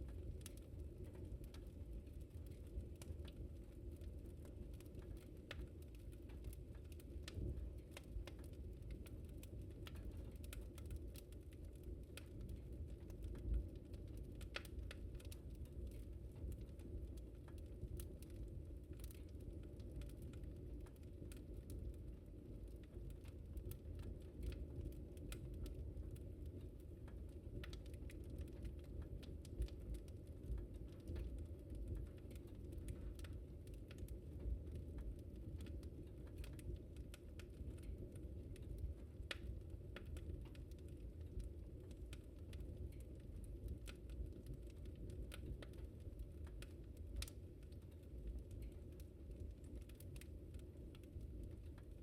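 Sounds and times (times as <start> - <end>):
low rumble of burning fire: 0.0 - 52.0
wood fire crackling: 0.0 - 52.0.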